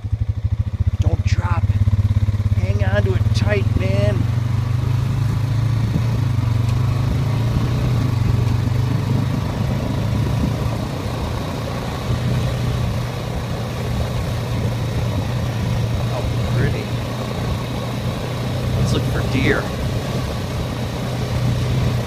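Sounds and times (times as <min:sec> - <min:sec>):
quad bike engine droning: 0:00.0 - 0:22.0.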